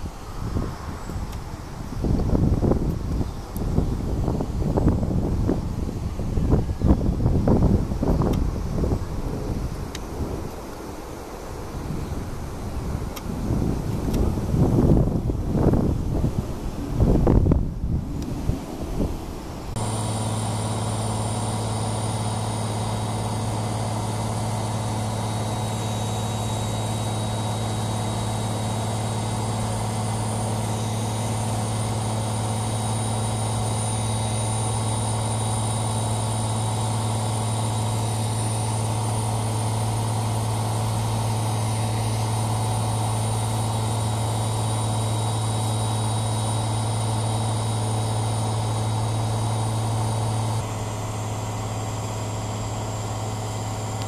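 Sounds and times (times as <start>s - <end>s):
machine humming with faint whine: 0.0s - 54.0s.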